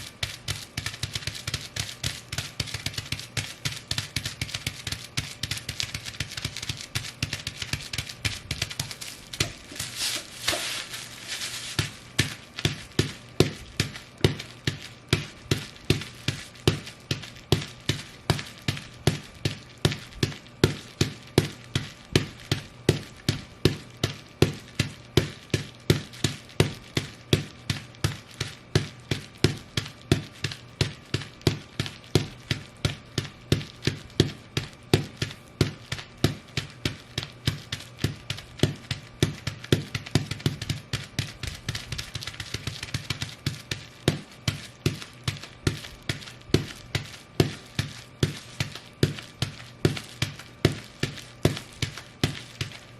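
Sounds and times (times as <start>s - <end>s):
boots stomping on bubble wrap: 0.0s - 52.9s
bubble wrap crackling: 0.0s - 52.9s.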